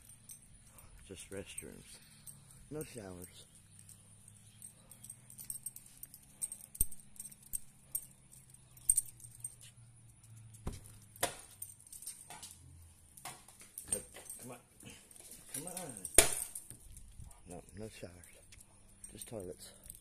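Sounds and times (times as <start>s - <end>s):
small metal pieces jingling: 0.0s - 20.0s.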